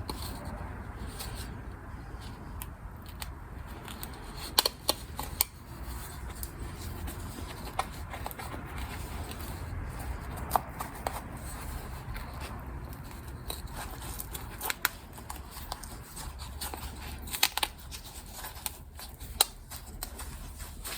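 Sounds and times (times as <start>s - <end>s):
low steady hum: 0.0s - 20.9s
soft rustling: 0.0s - 20.9s.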